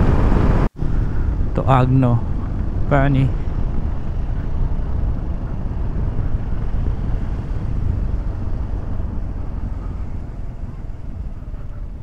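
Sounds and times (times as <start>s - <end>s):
scooter engine and wind rumble: 0.0s - 12.0s.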